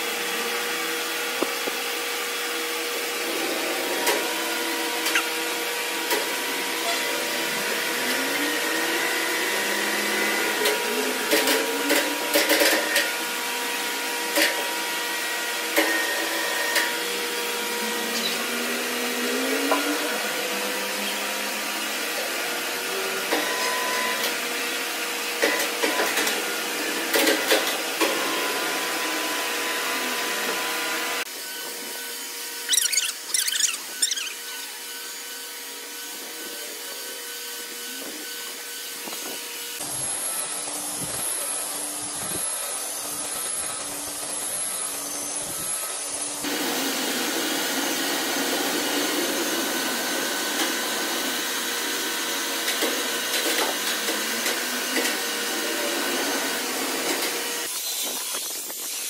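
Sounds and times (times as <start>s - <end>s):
belt sander humming on wood: 0.0s - 58.9s.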